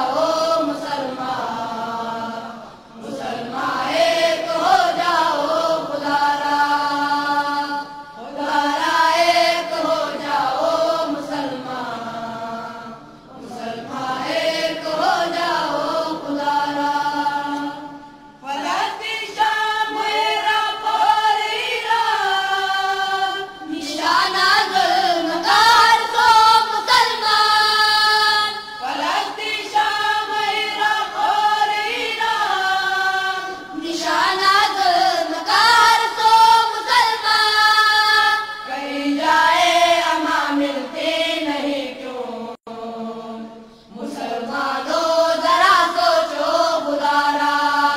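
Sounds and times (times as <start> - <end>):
voices chanting: 0.0 - 47.9.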